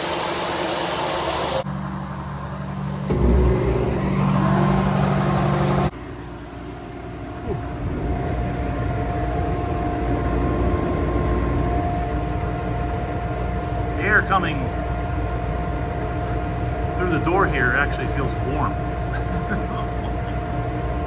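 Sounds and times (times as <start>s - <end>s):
engine running: 0.0s - 21.0s
fan drone with whine: 0.0s - 21.0s.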